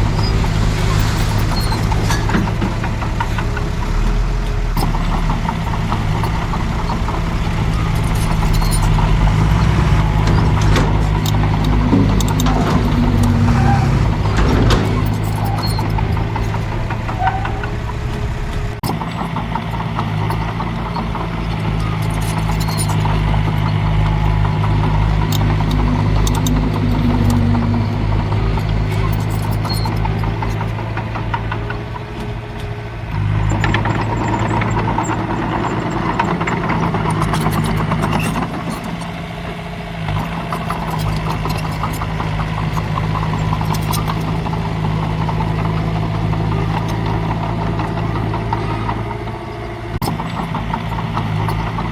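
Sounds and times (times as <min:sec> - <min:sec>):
faint rattling and clanking: 0:00.0 - 0:51.9
heavy diesel engine running: 0:00.0 - 0:51.9.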